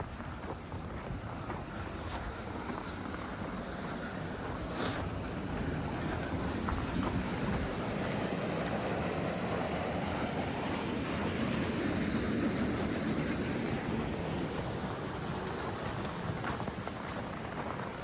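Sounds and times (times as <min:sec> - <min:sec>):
steady rushing roar: 0:00.0 - 0:18.0.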